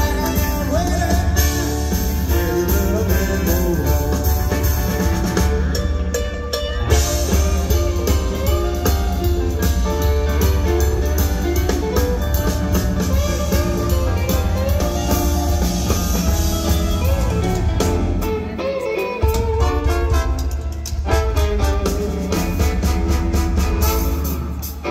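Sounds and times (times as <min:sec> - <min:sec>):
rock and roll band playing: 0:00.0 - 0:24.9.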